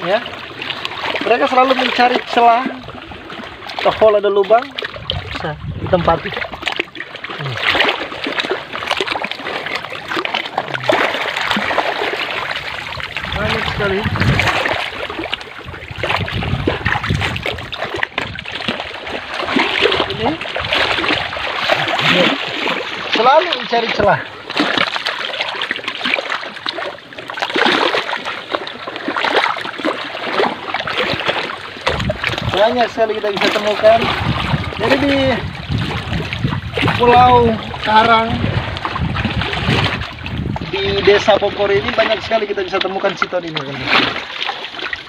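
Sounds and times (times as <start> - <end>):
seawater splashing among rocks: 0.0 - 45.0.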